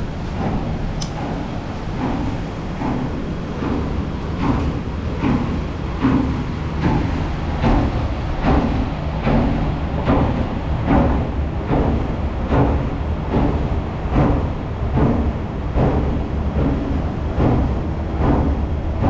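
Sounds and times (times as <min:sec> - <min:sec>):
low street noise rumble: 0:00.0 - 0:19.0.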